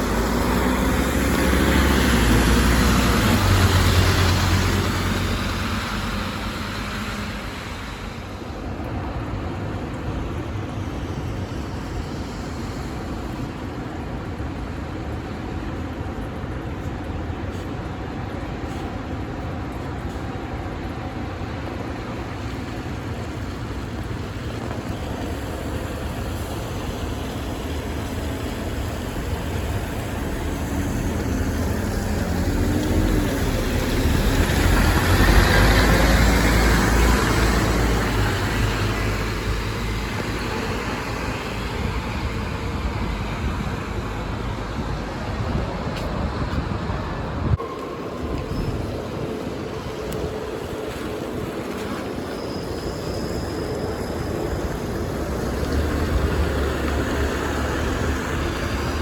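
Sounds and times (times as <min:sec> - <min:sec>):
bus passing: 0:00.0 - 0:59.0
steady traffic noise: 0:00.0 - 0:59.0.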